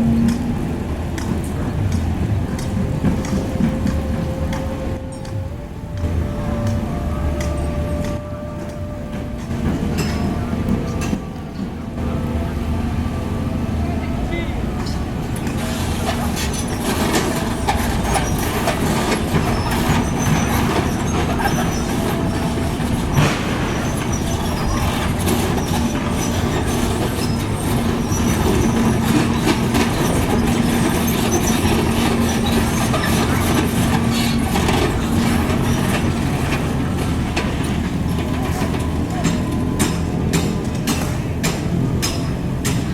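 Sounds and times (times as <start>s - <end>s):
heavy machinery diesel hum: 0.0s - 42.9s
metallic clanks and squeaks: 2.5s - 11.8s, 14.8s - 42.9s.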